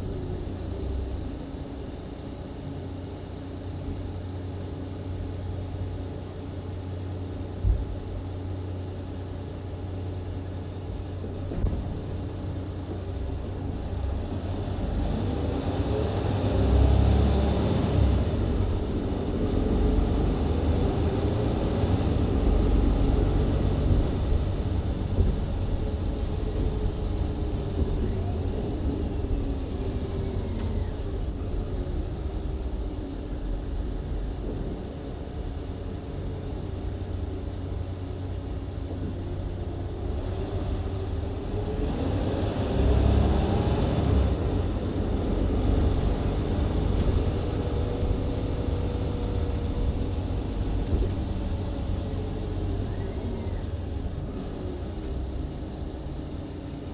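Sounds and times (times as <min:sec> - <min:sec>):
bus engine and gearbox: 0:00.0 - 0:56.9.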